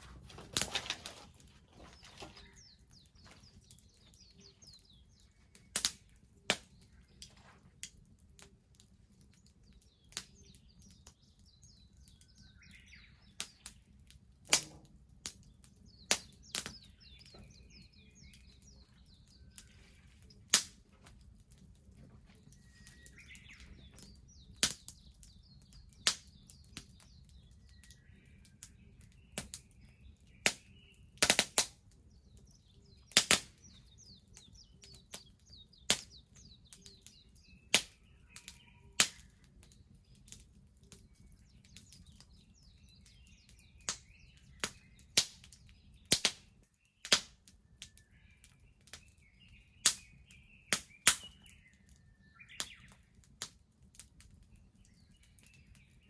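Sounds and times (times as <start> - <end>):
birds chirping: 0.0 - 56.0
wood bonfire crackling: 0.0 - 56.0.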